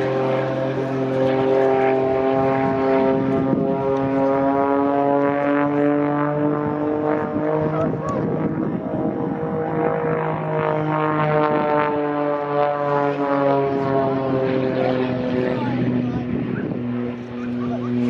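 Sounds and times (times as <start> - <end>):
propeller aircraft engine droning: 0.0 - 18.0.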